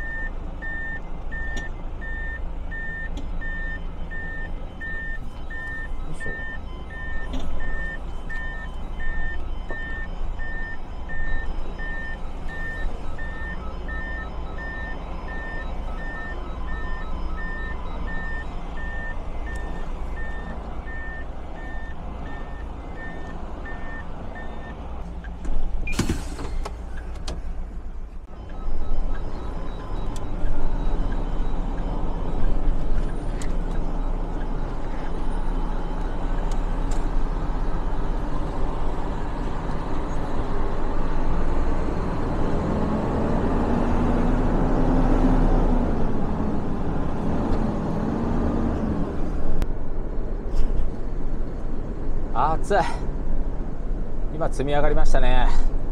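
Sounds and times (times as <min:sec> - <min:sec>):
truck backup alarm beeping: 0:00.0 - 0:27.1, 0:28.2 - 0:49.6
diesel engine rumble: 0:00.0 - 0:55.9.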